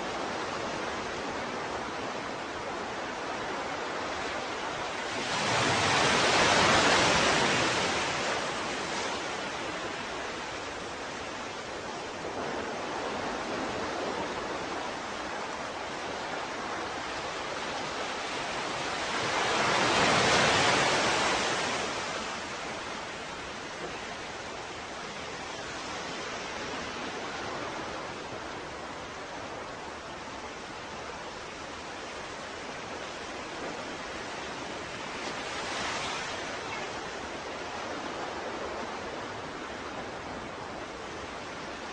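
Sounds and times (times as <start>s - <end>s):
ocean waves washing: 0.0s - 41.9s.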